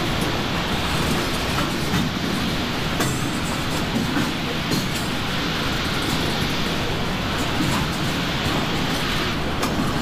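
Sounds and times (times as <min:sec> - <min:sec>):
steam locomotive hissing steam: 0:00.0 - 0:10.0.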